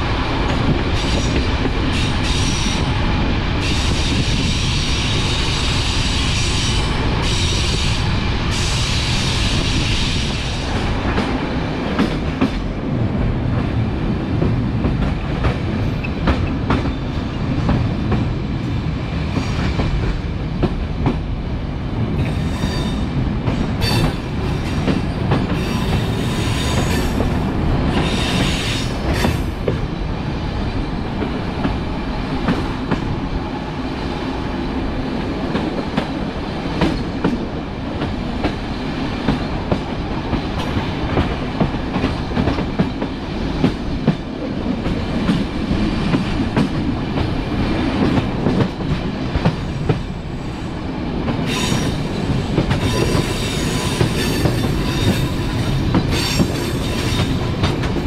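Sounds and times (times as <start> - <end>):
train coaches rumbling: 0.0 - 58.0.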